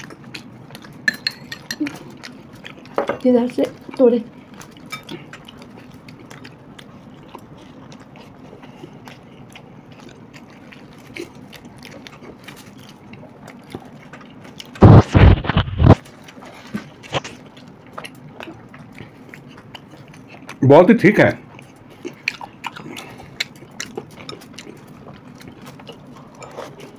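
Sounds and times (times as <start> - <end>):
close chewing: 0.0 - 26.9.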